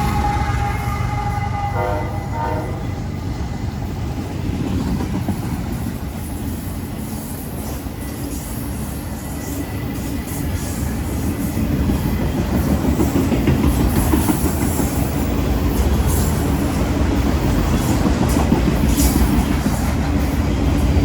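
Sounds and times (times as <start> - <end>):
freight train wheels rumbling: 0.0 - 21.0
clickety-clack over rail joints: 3.5 - 21.0.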